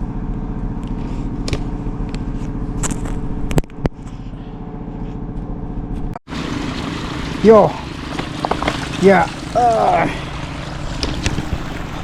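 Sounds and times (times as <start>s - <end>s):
engine running with pulsing hum: 0.0s - 12.0s.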